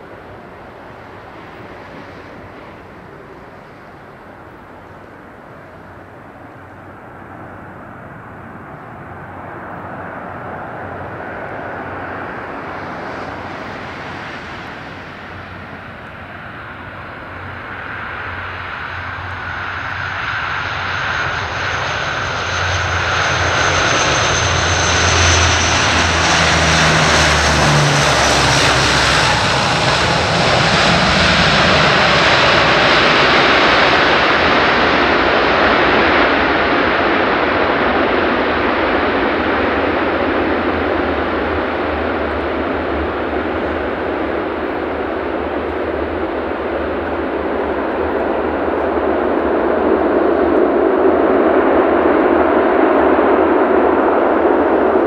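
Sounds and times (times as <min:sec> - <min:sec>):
turboprop aircraft landing: 0:00.0 - 0:55.0.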